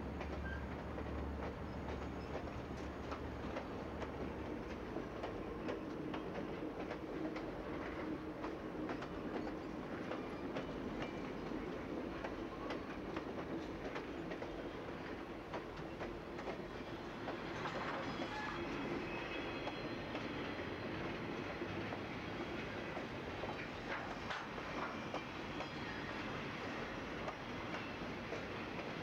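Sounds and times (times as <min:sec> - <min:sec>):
steady train rumble: 0:00.0 - 0:29.0
train wheels clacking on track: 0:00.0 - 0:29.0.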